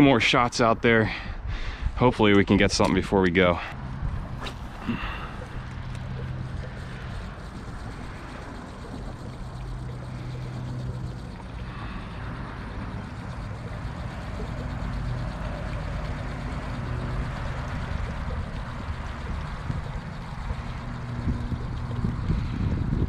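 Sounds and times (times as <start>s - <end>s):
wind buffeting microphone: 0.0s - 14.7s, 17.0s - 23.0s.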